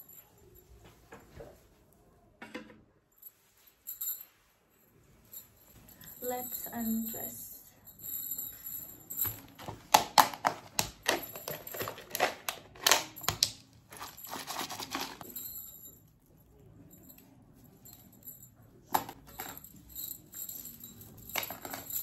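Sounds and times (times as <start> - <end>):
bangles clinking: 3.1 - 22.0.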